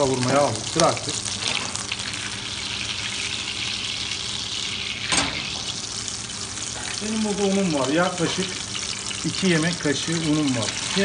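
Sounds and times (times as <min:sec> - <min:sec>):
butter bubbling in a pan: 0:00.0 - 0:11.0
frying sizzle: 0:00.0 - 0:11.0.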